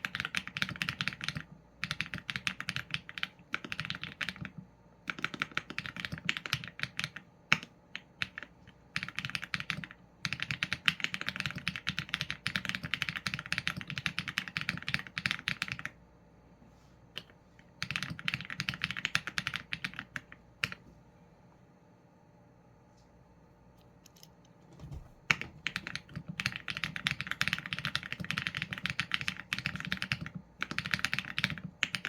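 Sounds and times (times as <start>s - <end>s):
typing on mechanical keyboard: 0.0s - 16.0s, 17.2s - 20.8s, 25.3s - 32.0s.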